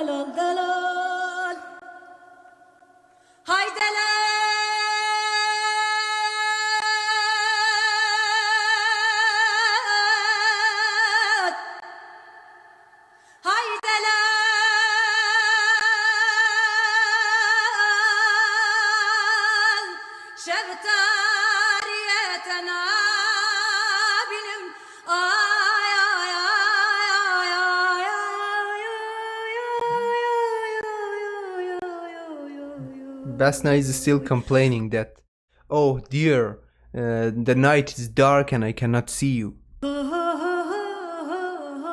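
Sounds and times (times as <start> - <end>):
woman singing a lament: 0.0 - 2.7, 3.5 - 12.7, 13.4 - 34.8, 39.8 - 41.9.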